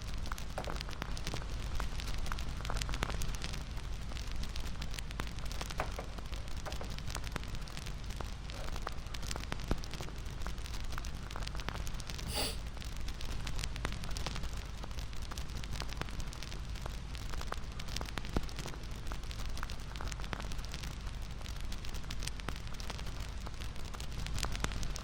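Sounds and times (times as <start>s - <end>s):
bonfire crackling: 0.0s - 12.2s, 12.8s - 24.9s.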